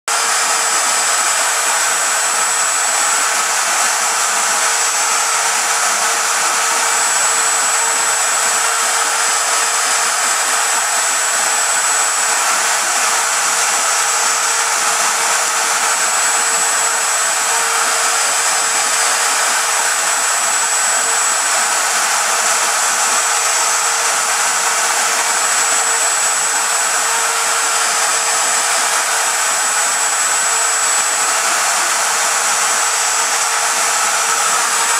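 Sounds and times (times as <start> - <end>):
router spindle whining: 0.1 - 34.9.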